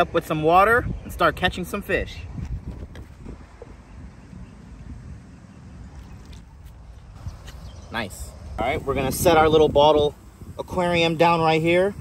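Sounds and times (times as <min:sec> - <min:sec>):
wind on microphone: 0:00.4 - 0:12.0.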